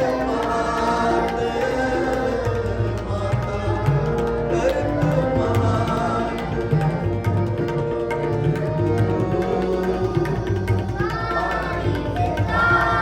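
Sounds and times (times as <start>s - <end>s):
person singing devotional song: 0.0s - 13.0s
steady held drone tones: 0.0s - 13.0s
tabla: 0.0s - 13.0s
voices singing: 0.0s - 13.0s.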